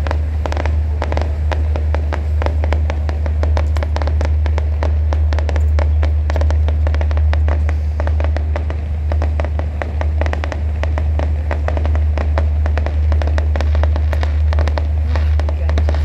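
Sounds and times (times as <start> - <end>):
fireworks crackling and popping: 0.0 - 16.0
low hum: 0.0 - 16.0.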